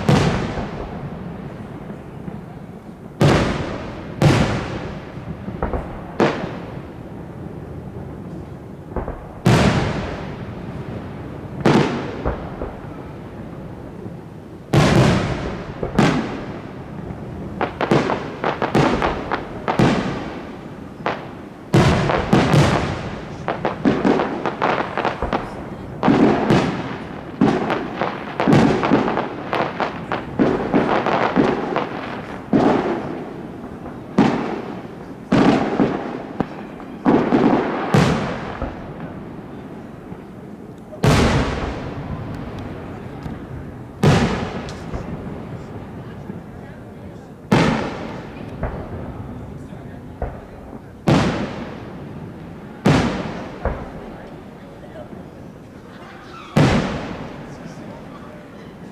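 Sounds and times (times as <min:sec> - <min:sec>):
fireworks bangs echoing: 0:00.0 - 0:58.9
fireworks crackling: 0:00.0 - 0:58.9.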